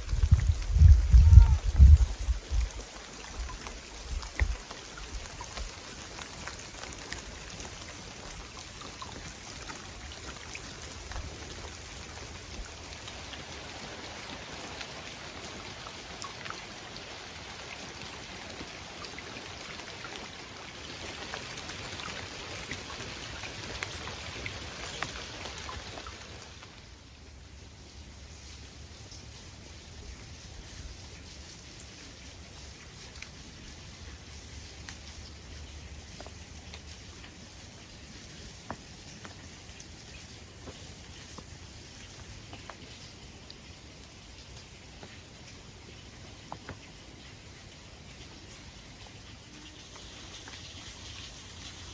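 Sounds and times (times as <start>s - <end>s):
light rain: 0.0s - 51.9s.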